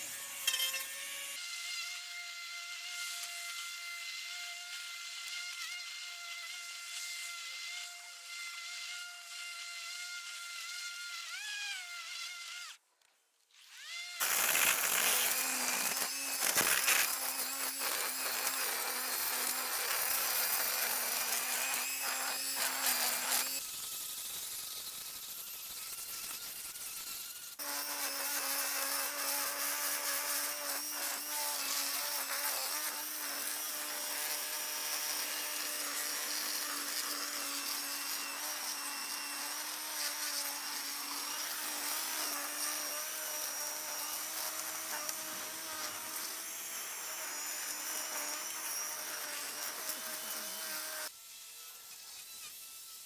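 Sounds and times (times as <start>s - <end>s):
string trimmer cutting grass: 0.0s - 53.0s.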